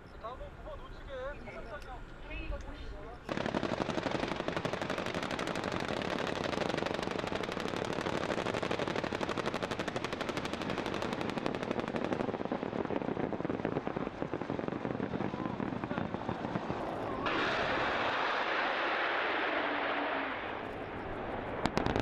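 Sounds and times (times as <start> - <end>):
automatic machine-gun fire: 3.3 - 22.0.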